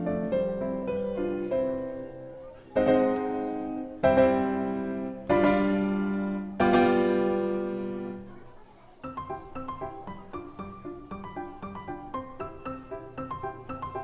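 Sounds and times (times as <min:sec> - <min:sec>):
sustained piano chords: 0:00.0 - 0:08.4, 0:09.1 - 0:14.0.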